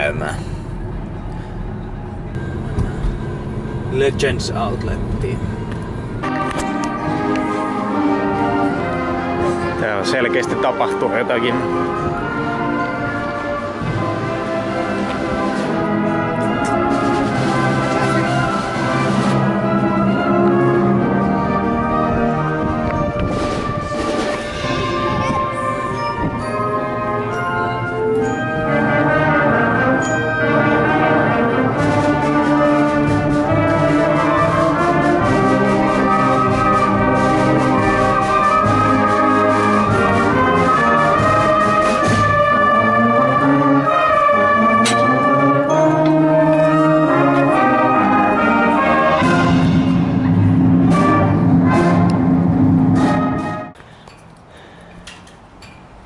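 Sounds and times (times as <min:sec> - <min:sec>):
concert band playing slow chords: 0:05.7 - 0:09.8, 0:11.6 - 0:53.5.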